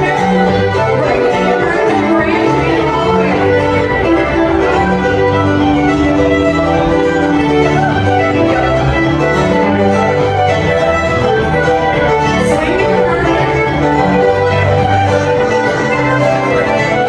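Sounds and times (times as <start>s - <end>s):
fiddle music: 0.0s - 17.0s
guitar accompaniment: 0.0s - 17.0s.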